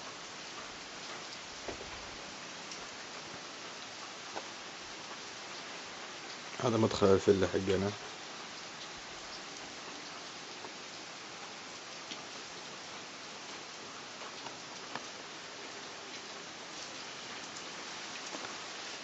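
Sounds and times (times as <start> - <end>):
rain drops ticking: 0.0 - 19.0
steady rain hiss: 0.0 - 19.0.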